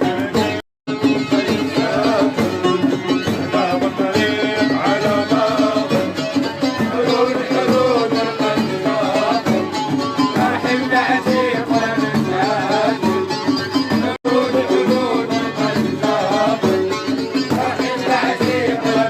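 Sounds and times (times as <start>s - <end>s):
folk melody: 0.0s - 19.0s
steady percussion beat: 0.0s - 19.0s.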